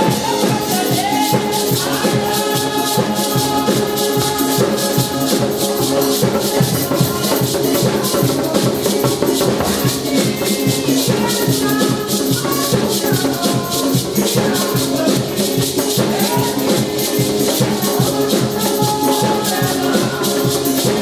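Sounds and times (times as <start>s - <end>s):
fast drum beat: 0.0s - 21.0s
people singing into microphones: 0.0s - 21.0s.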